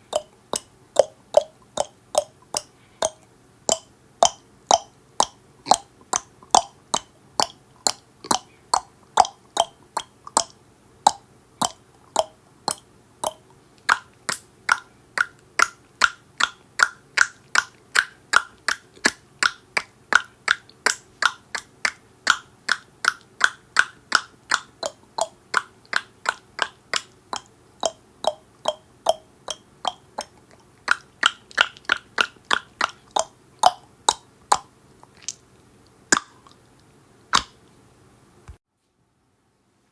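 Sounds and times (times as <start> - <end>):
person clicking tongue: 0.0 - 35.4, 36.2 - 36.6, 37.4 - 37.6.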